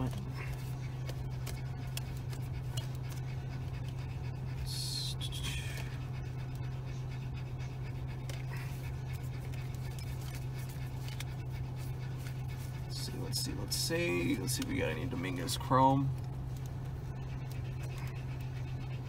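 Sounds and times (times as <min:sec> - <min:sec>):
low hum inside a car: 0:00.0 - 0:19.0.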